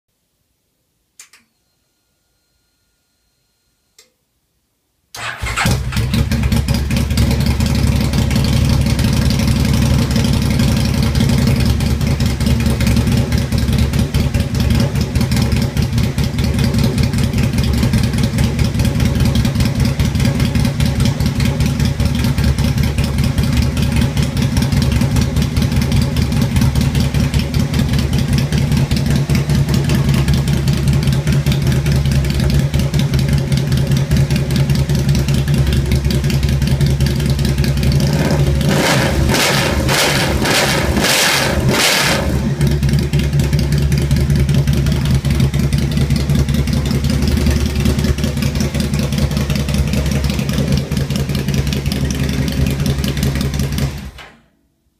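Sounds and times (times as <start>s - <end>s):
motorcycle engine idling loudly: 5.2s - 54.2s.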